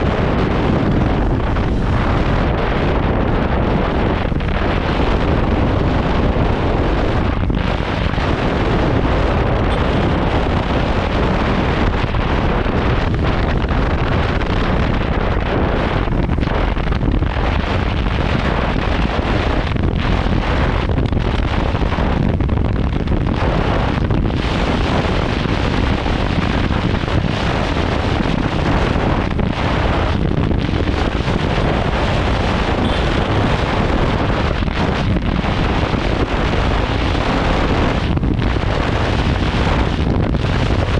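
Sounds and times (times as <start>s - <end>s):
wind buffeting on microphone: 0.0s - 40.9s.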